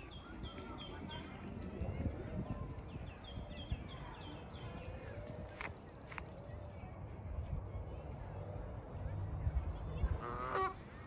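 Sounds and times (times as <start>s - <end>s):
low steady background rumble: 0.0s - 11.0s
songbirds chirping and trilling: 0.0s - 11.0s.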